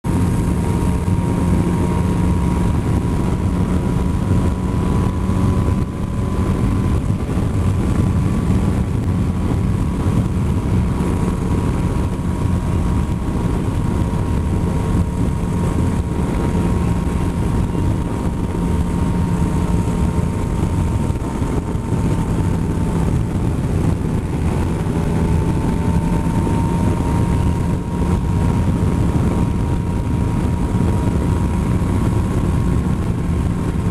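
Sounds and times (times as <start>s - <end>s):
motorcycle engine cruising: 0.0s - 33.9s
wind rush on microphone: 0.0s - 33.9s.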